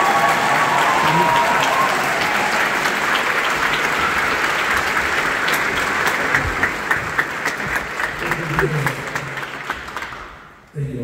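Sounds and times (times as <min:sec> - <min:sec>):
audience applauding: 0:00.0 - 0:10.6
close hand claps: 0:00.0 - 0:10.6.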